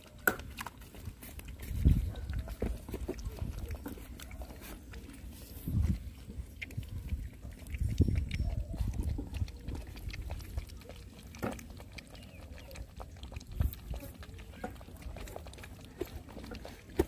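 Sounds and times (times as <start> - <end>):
puppies lapping milk: 0.0 - 17.0.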